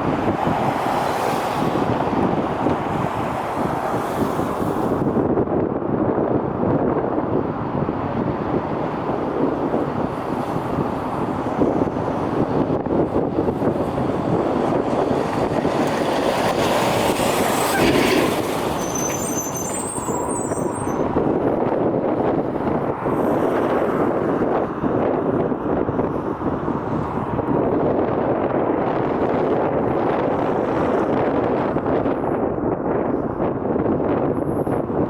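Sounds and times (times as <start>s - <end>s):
vehicle engines: 0.0s - 35.0s
wind rushing: 0.0s - 35.0s.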